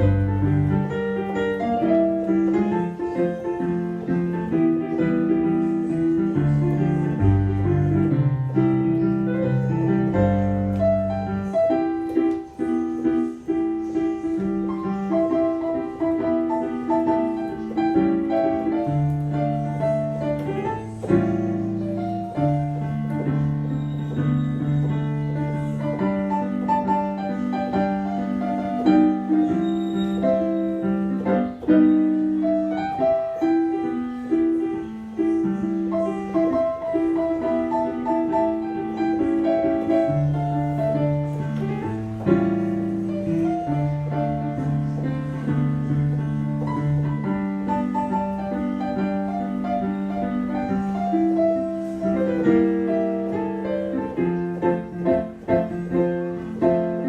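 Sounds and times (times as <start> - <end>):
keyboard playing piano-like melody: 0.0 - 57.0.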